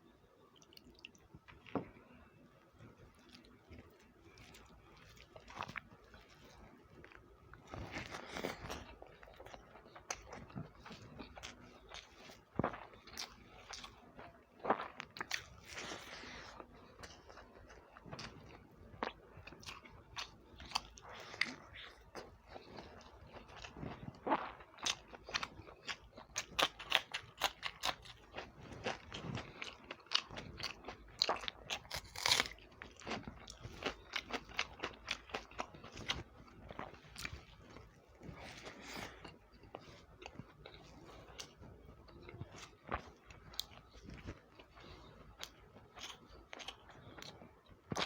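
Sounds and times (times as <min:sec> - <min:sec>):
person chewing with wet smacks: 0:00.5 - 0:02.0, 0:02.8 - 0:48.0.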